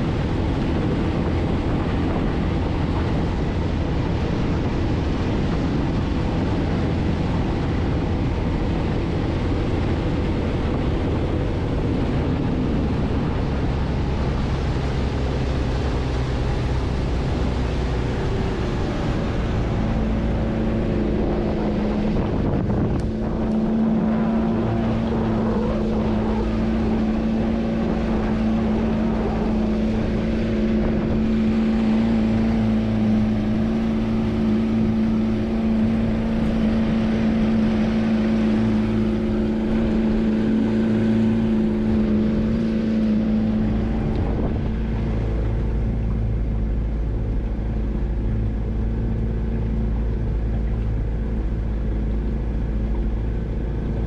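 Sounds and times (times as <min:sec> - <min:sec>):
speedboat engine droning: 0:00.0 - 0:54.0
water rushing past hull: 0:00.0 - 0:54.0
wind buffeting microphone: 0:00.0 - 0:54.0.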